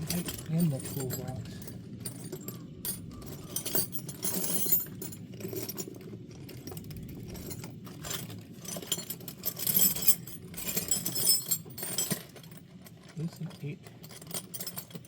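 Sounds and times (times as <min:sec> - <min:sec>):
metal tools clinking in toolbox: 0:00.0 - 0:15.0.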